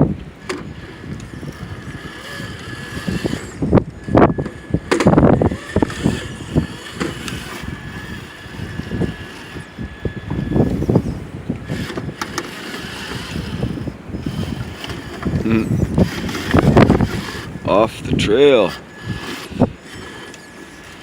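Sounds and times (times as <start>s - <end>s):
electric motor high whine: 0.0s - 21.0s
wind buffeting microphone: 0.0s - 21.0s.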